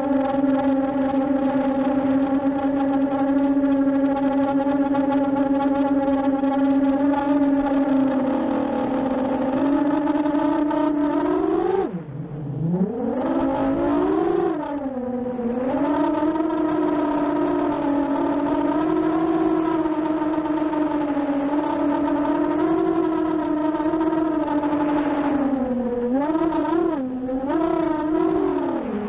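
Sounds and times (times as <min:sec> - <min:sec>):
drone motors and propellers whining: 0:00.0 - 0:29.0.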